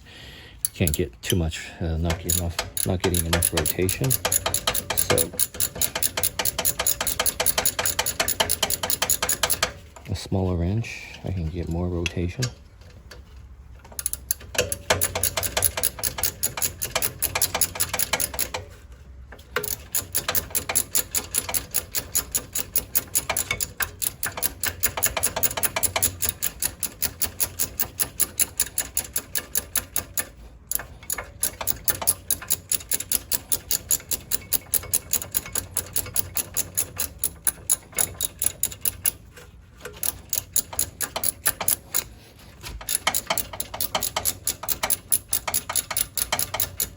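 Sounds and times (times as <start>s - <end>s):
ratchet wrench clicking: 0.6s - 1.1s, 2.1s - 9.7s, 13.9s - 18.6s, 19.6s - 42.2s, 42.8s - 46.9s.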